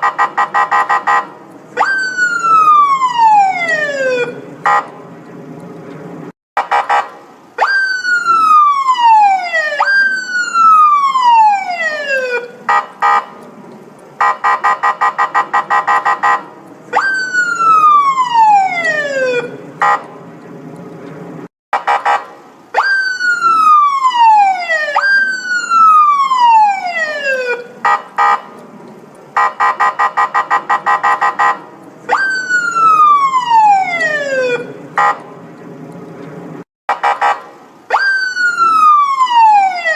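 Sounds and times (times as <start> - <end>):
electronic police siren: 0.0 - 4.9, 6.6 - 13.3, 14.2 - 20.0, 21.8 - 28.4, 29.4 - 35.2, 37.0 - 39.9.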